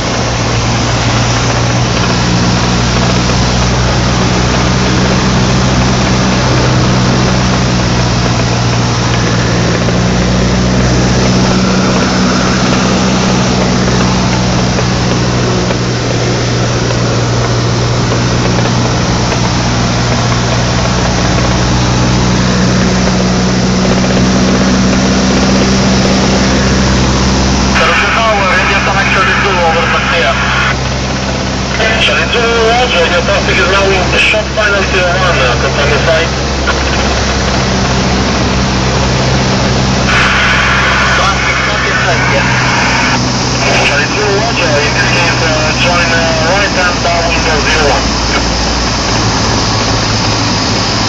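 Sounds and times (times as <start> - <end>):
rush of air noise: 0.0 - 32.6, 35.4 - 51.0
airplane engine and propeller droning: 0.0 - 51.0.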